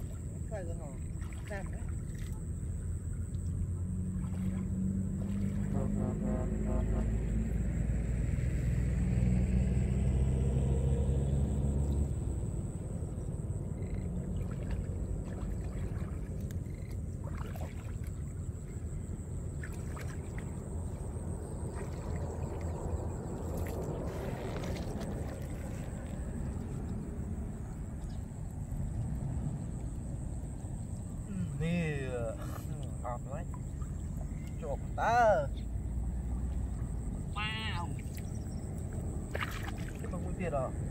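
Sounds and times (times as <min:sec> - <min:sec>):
shallow water splashing: 0:00.0 - 0:07.7, 0:10.4 - 0:40.9.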